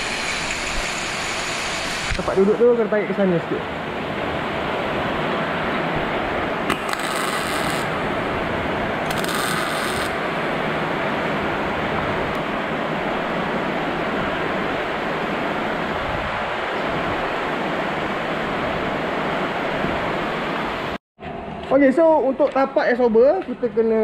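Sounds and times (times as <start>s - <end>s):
steady rushing noise: 0.0s - 22.3s.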